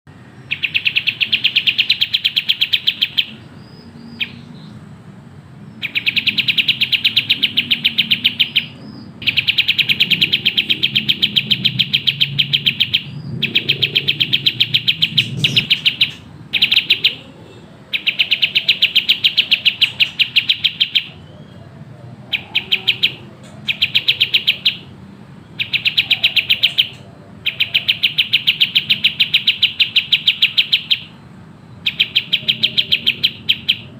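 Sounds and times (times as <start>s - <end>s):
songbird rapid chirping: 0.1s - 33.9s.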